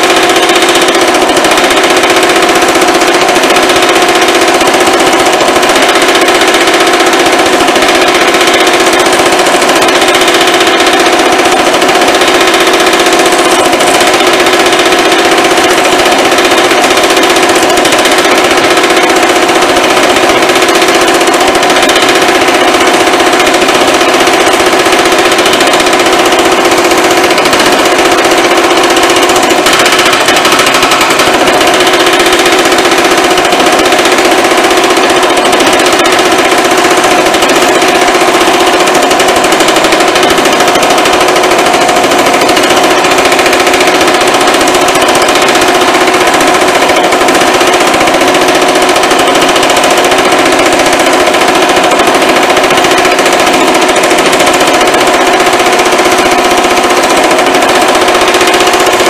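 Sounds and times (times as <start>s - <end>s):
power hammer rattling on sheet metal: 0.0s - 59.0s
steady ringing tone: 0.0s - 59.0s.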